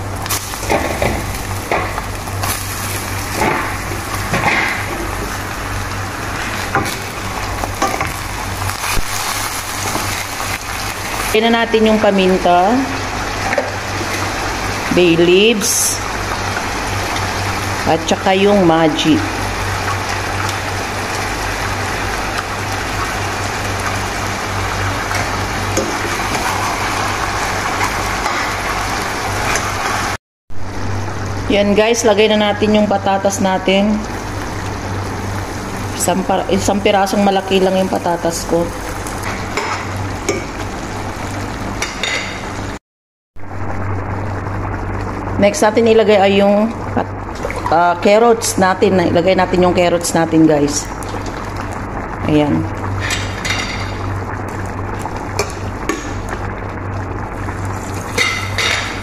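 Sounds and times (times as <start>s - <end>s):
chicken sizzling in hot oil: 0.0s - 31.4s, 32.6s - 42.8s, 50.1s - 59.0s
low stovetop hum: 0.0s - 42.8s, 43.4s - 59.0s
rushing hissing cooking noise: 0.0s - 42.8s, 43.4s - 59.0s.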